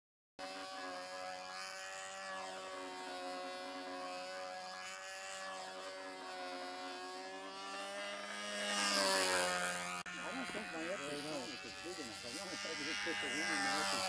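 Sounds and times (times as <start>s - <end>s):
model airplane engine drone: 0.4s - 14.0s.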